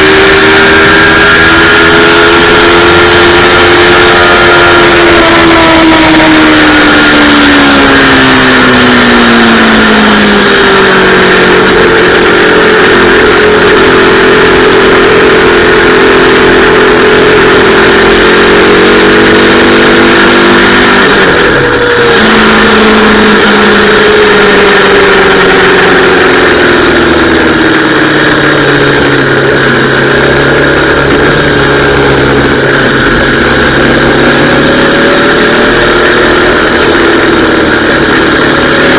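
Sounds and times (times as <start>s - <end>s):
motorcycle engine revs: 0.0s - 38.9s.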